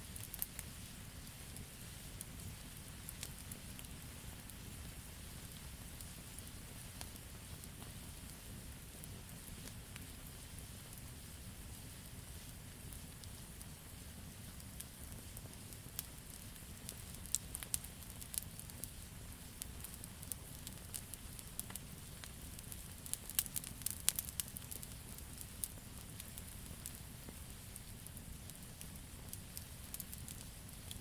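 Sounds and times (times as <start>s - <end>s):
campfire crackling and popping: 0.0s - 31.0s
low rumble of burning: 0.0s - 31.0s.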